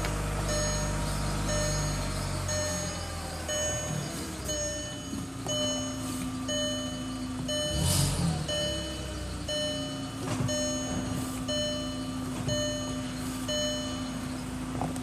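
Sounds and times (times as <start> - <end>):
car warning chime: 0.0 - 14.6
car engine humming: 0.0 - 15.0.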